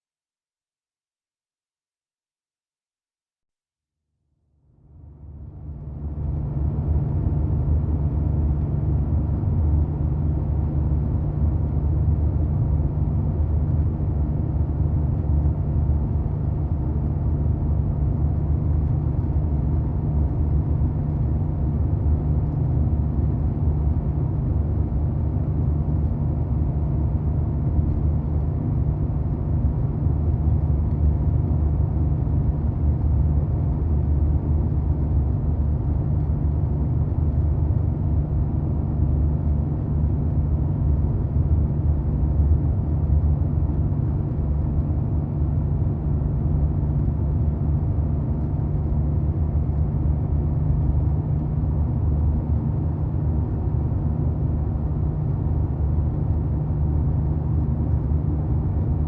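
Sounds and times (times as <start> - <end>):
car engine running steadily: 4.9 - 59.0.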